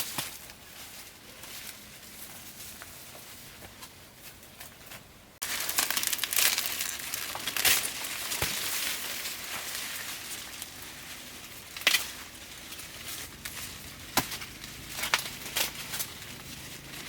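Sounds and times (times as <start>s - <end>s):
dry crinkling rustle: 0.0s - 17.0s.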